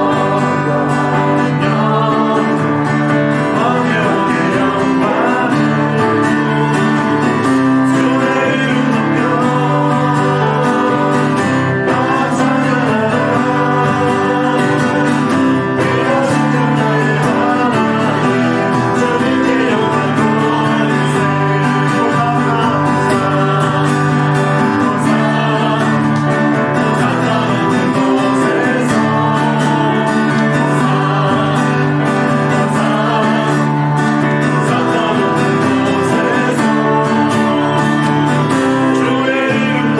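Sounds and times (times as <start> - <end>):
guitar: 0.0 - 39.9
people singing a hymn: 0.0 - 39.9
worship band music: 0.0 - 39.9.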